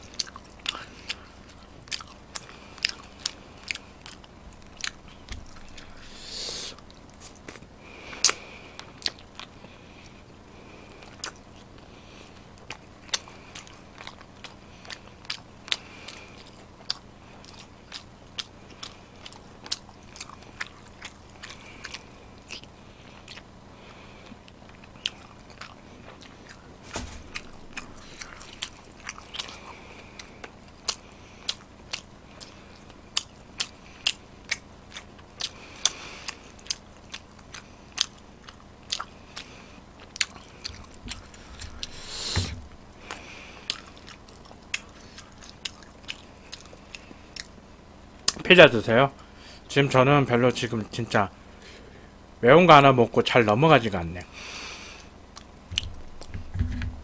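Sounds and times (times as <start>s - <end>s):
person chewing food: 0.0s - 48.4s, 54.5s - 57.0s.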